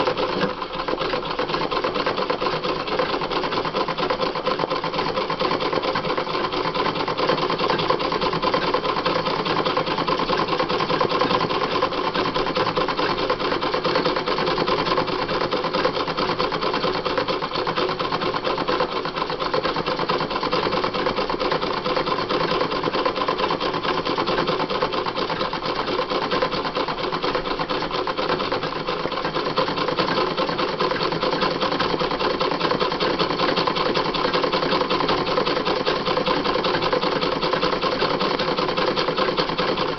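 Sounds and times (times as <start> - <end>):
sewing machine stitching: 0.0 - 39.9.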